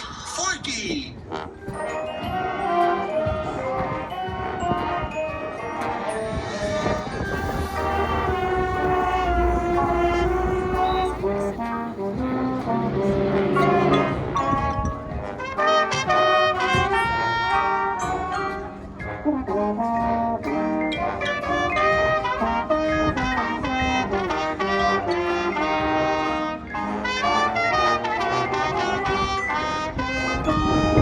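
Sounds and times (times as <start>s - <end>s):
drums: 0.0s - 27.0s
marching band playing: 1.1s - 31.0s
trumpets and trombones: 1.1s - 31.0s.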